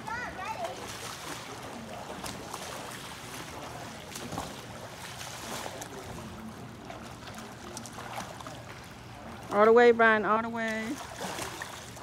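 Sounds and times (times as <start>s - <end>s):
water splashing from swimming: 0.0s - 12.0s.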